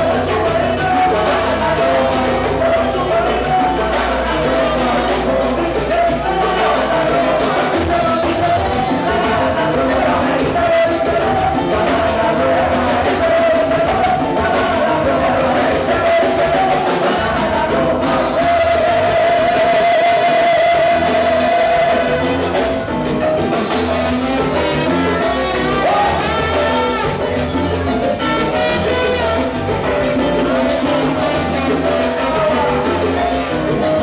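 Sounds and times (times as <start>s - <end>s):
person singing: 0.0s - 22.9s, 23.8s - 34.0s
live latin dance band: 0.0s - 34.0s
trumpet: 0.0s - 34.0s.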